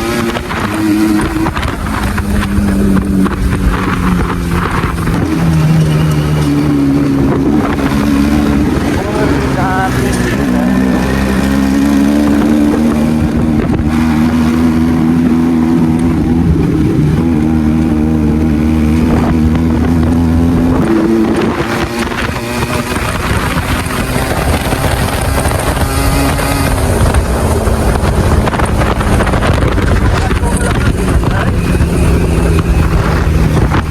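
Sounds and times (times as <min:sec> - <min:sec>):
motorcycle engine cruising: 0:00.0 - 0:33.9
wind buffeting microphone: 0:00.0 - 0:33.9.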